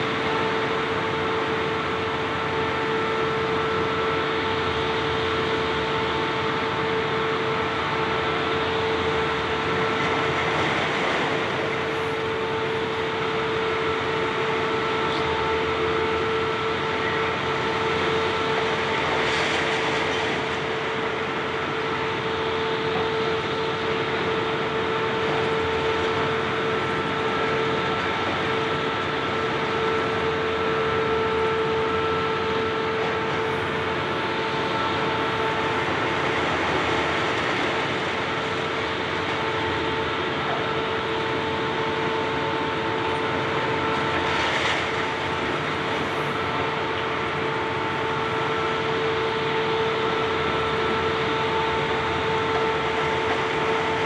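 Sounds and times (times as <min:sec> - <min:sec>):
excavator engines and hydraulics: 0:00.0 - 0:54.0.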